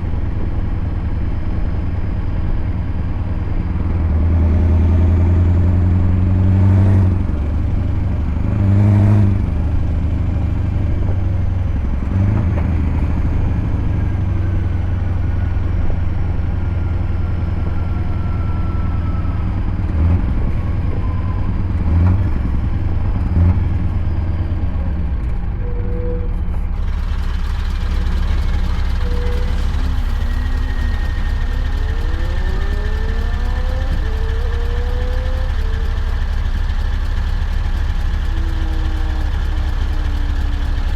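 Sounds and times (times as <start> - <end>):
truck engine humming: 0.0 - 40.9.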